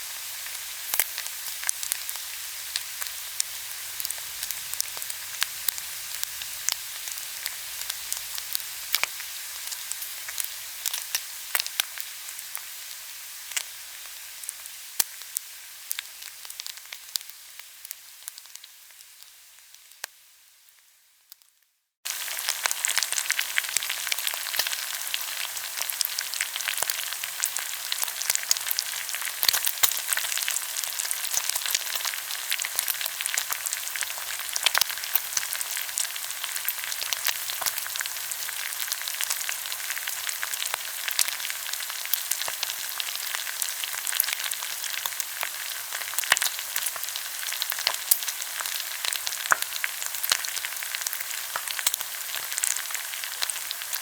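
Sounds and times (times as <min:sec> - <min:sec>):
meat sizzling on a grill: 0:00.0 - 0:54.0.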